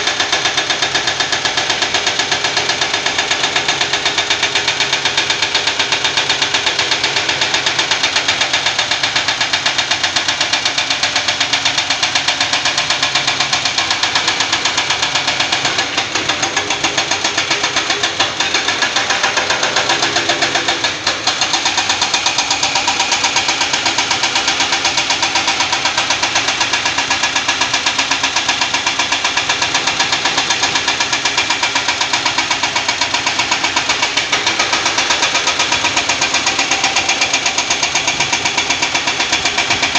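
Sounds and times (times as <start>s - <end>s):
diesel engines knocking: 0.0s - 39.9s.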